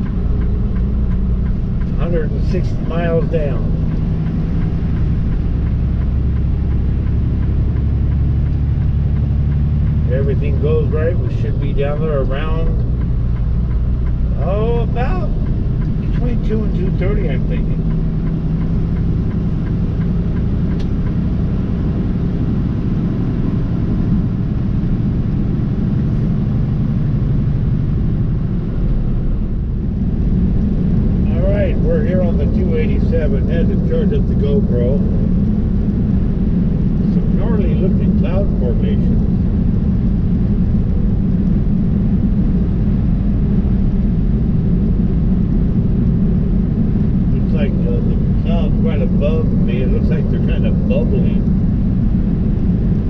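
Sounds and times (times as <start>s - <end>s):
truck diesel engine drone: 0.0s - 53.0s
tyre road noise: 0.0s - 53.0s.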